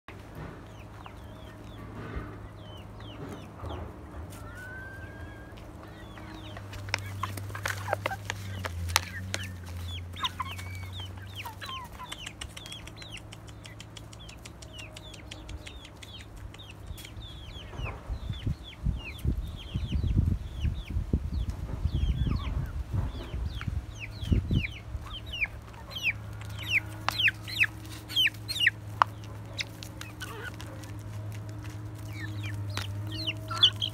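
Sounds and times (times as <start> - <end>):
chicks peeping: 0.1 - 33.9
hens clucking: 0.1 - 33.9.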